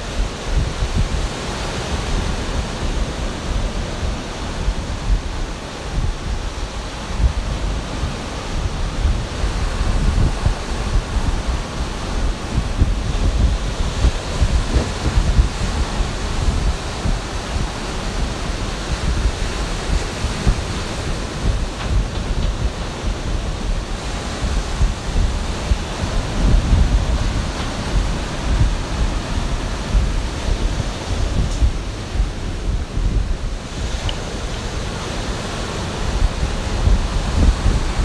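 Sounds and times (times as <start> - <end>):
ocean surf washing: 0.0 - 38.0
wind on microphone: 0.0 - 38.0.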